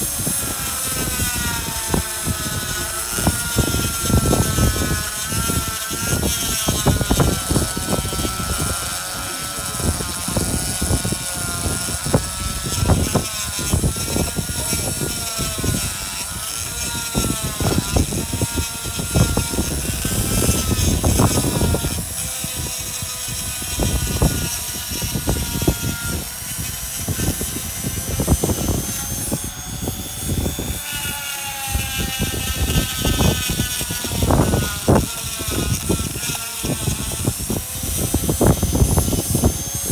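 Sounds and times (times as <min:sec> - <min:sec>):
burr rasping against stone: 0:00.0 - 0:39.9
die grinder motor whine: 0:00.0 - 0:39.9.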